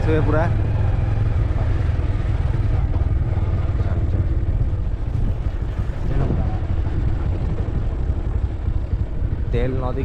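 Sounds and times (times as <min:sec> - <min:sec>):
vehicle engine running: 0:00.0 - 0:10.0
wind buffeting microphone: 0:00.5 - 0:10.0.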